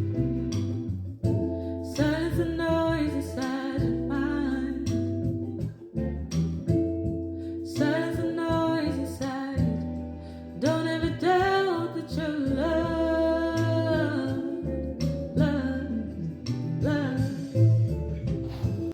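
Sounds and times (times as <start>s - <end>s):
sped-up backing beat: 0.0s - 11.8s, 12.4s - 18.9s
bass line: 0.0s - 18.9s
plucked guitar: 0.0s - 18.9s
person singing: 1.4s - 5.4s, 7.6s - 18.9s.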